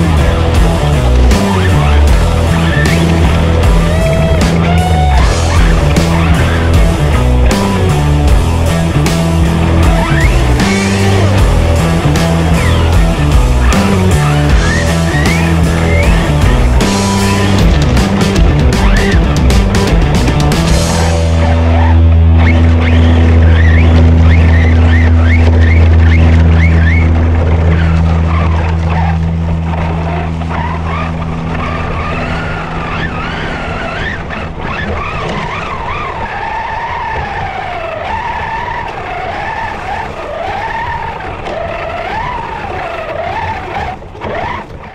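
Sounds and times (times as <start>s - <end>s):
background music: 0.0s - 37.1s
tyres on leafy dirt trail: 0.0s - 44.9s.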